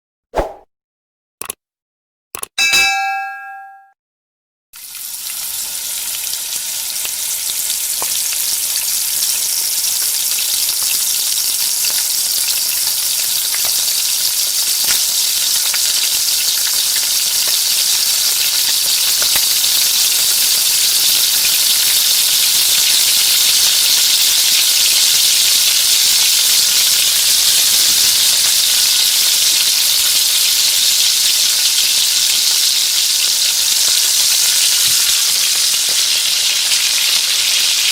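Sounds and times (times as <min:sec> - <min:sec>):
food sizzling in hot oil: 0:04.8 - 0:37.9.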